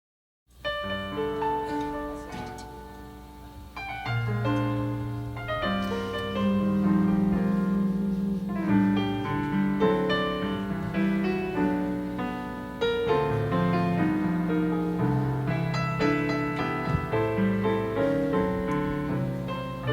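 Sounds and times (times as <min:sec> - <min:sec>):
jazz piano ballad chords: 0:00.5 - 0:19.9.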